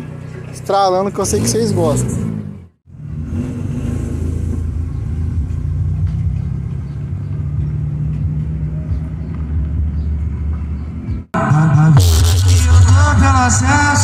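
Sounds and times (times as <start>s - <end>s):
pickup engine and road noise: 0.0s - 14.0s.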